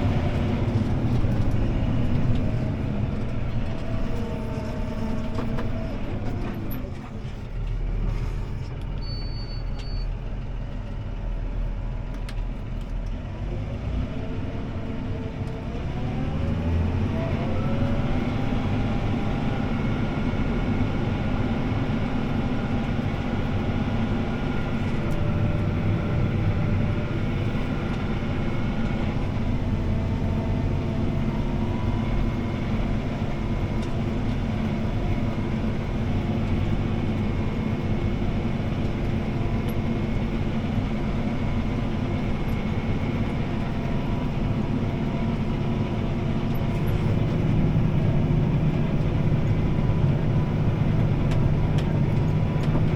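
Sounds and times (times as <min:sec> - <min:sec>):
tractor engine running under load: 0:00.0 - 0:52.9.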